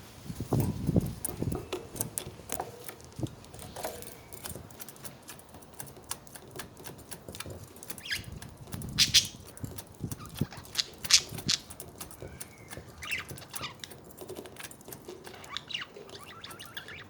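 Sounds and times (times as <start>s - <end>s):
beaks and claws clicking: 0.4s - 17.0s.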